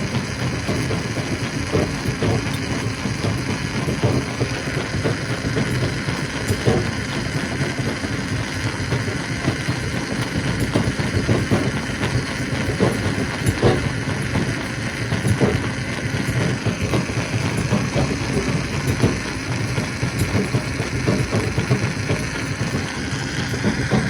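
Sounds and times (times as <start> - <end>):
stone crusher rumbling: 0.0 - 24.0.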